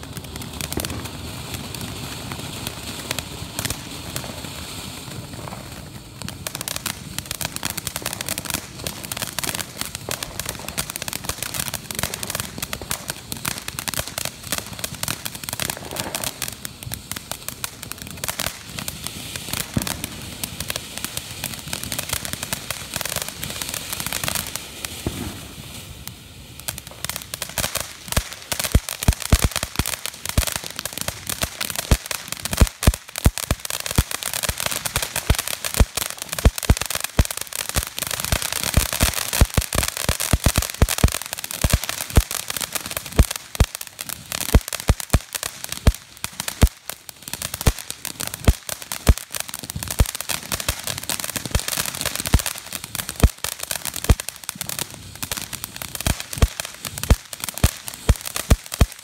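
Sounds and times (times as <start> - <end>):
firework fountain hissing and crackling: 0.0 - 59.0
sharp firework cracks and pops: 0.0 - 59.0.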